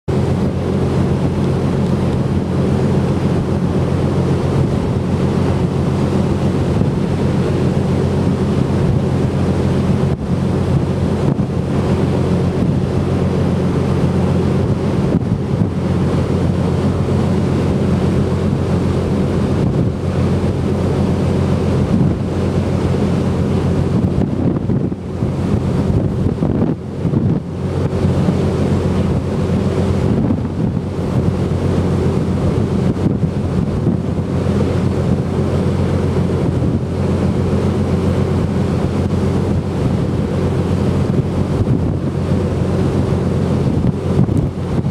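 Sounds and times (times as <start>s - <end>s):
ship engines droning: 0.1s - 44.9s
wake water rushing: 0.1s - 44.9s
wind buffeting microphone: 0.1s - 44.9s.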